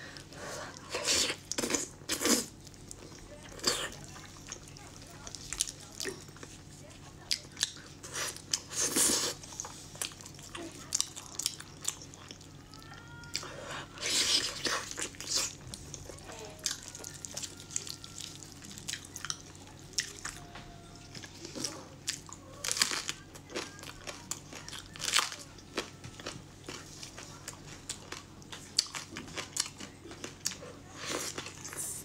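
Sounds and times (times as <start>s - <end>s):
chewing and lip-smacking: 0.7s - 32.0s.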